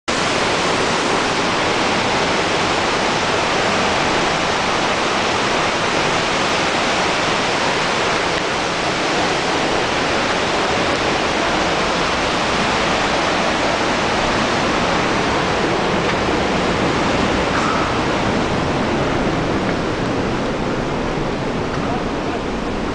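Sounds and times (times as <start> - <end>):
waterfall rushing: 0.1 - 22.9.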